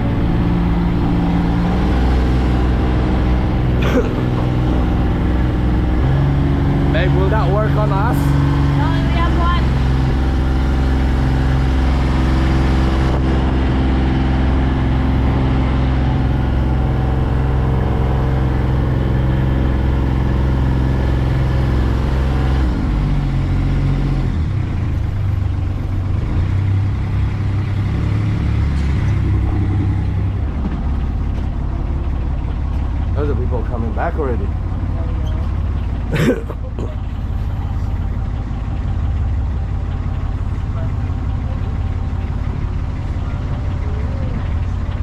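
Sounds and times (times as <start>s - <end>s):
boat engine running: 0.0s - 45.0s.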